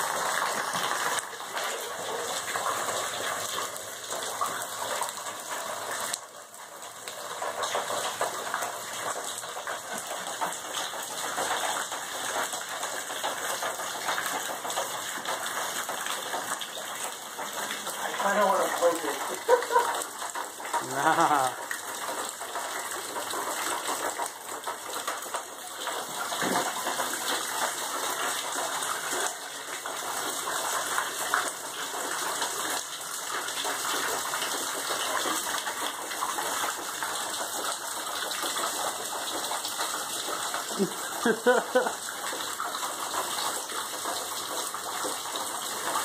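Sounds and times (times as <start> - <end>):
water dripping onto floor: 0.0 - 46.0.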